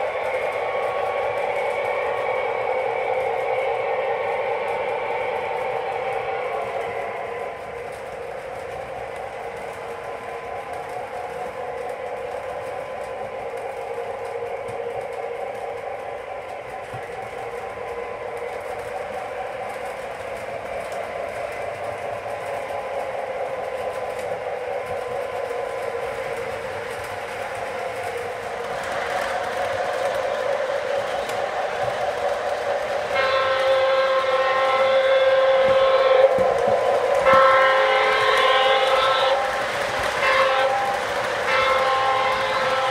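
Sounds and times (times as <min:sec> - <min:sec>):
model train wheels clattering: 0:00.0 - 0:42.9.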